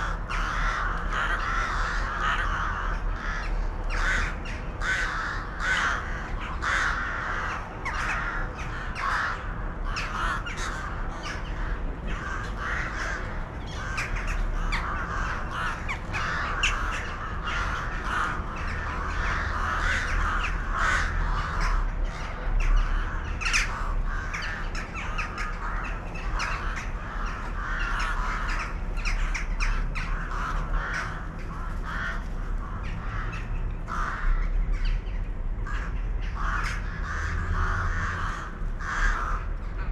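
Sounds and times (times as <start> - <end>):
flock of birds calling: 0.0 - 39.9
steady low rumble: 0.0 - 39.9.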